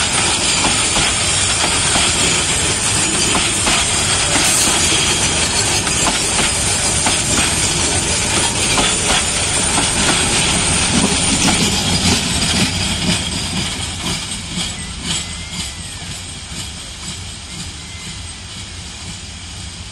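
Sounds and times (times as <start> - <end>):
train wheels clattering over rail joints: 0.0 - 17.9
train rolling noise: 0.0 - 19.9.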